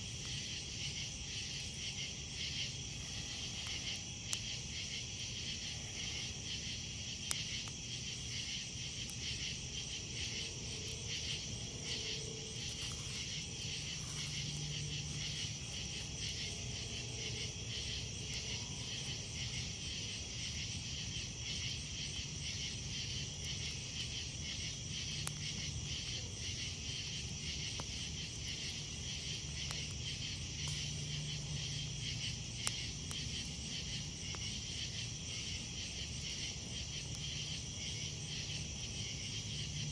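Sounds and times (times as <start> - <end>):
campfire popping: 0.0 - 39.9
crickets trilling: 0.0 - 39.9.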